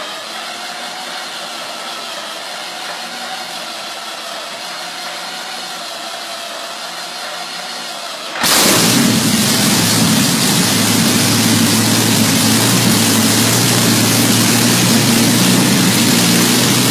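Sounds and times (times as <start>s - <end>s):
engine running with hissing whine: 0.0s - 16.9s.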